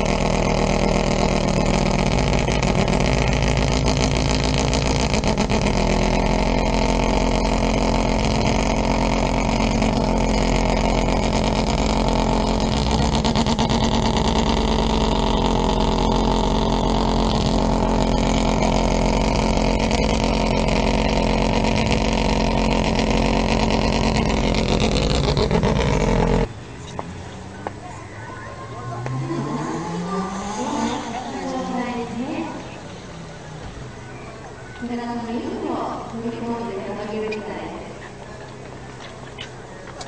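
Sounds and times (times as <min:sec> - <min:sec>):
race car engine idling: 0:00.0 - 0:40.0.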